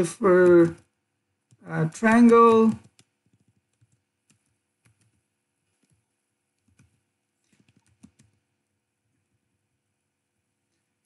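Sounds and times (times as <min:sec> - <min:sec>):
faint keyboard typing: 0:00.0 - 0:09.6.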